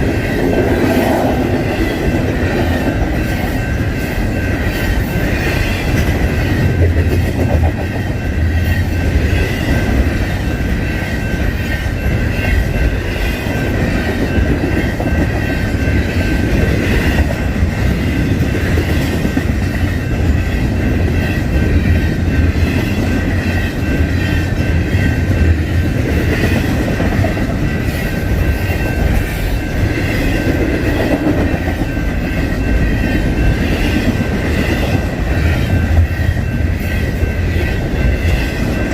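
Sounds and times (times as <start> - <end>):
freight train rumbling past: 0.0 - 38.9
high ringing wheel tone: 0.0 - 38.9.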